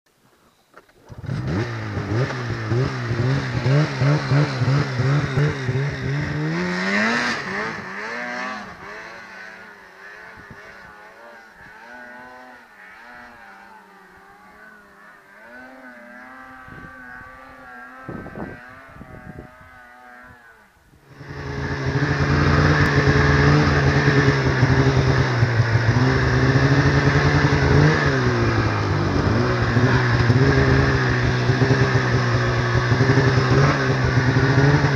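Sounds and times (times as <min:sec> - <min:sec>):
snowmobile engine revving: 0:01.1 - 0:34.9.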